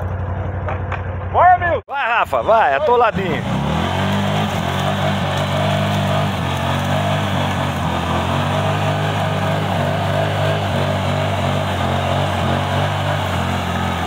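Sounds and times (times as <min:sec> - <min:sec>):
atv engine under load: 0:00.0 - 0:14.0.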